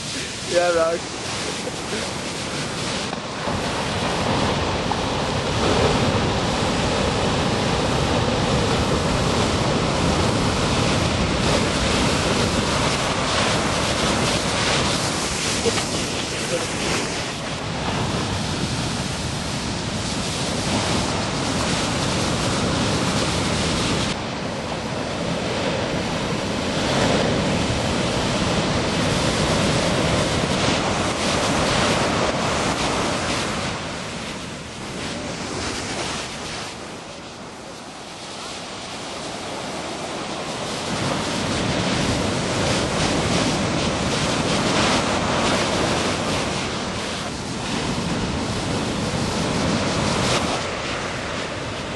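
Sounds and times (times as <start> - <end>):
ocean waves breaking: 0.0 - 51.9
surf rushing: 0.0 - 51.9
wind buffeting microphone: 0.0 - 51.9.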